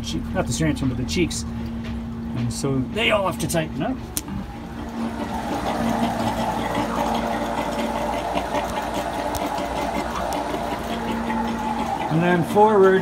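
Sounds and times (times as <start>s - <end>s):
electric pumps humming and rattling: 0.0s - 13.0s.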